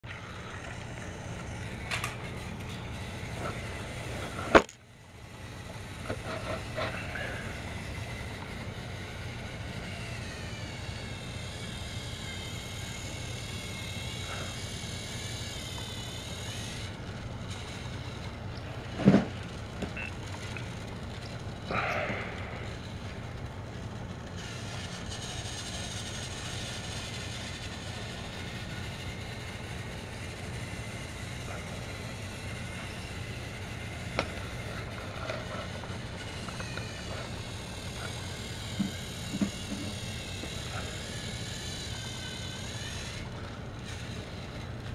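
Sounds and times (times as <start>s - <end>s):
toy train motor whirring: 0.0s - 44.9s.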